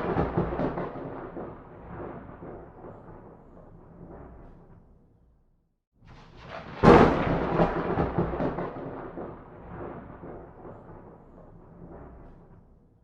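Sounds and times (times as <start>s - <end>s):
thunderclap and rolling rumble: 0.0s - 5.1s, 6.0s - 13.0s.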